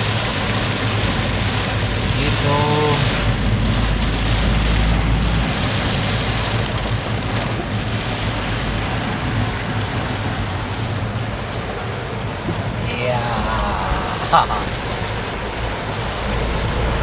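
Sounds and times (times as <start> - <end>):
heavy rain pouring: 0.0 - 17.0
vehicle engine hum: 0.0 - 17.0.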